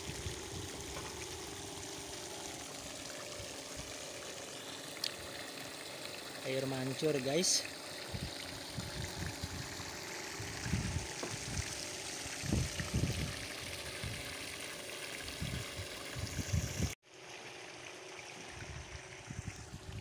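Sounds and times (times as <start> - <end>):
fountain spraying water: 0.0 - 19.9.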